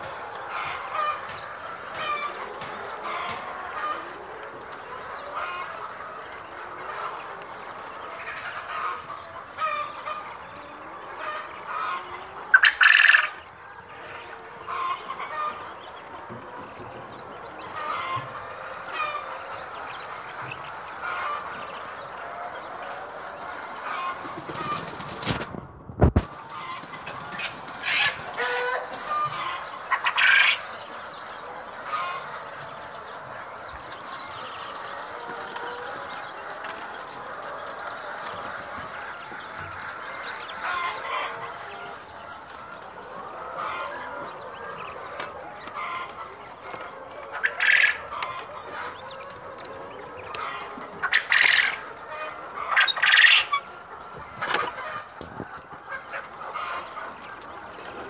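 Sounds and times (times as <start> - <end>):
quail and poultry chirping and clucking: 0.0 - 58.0.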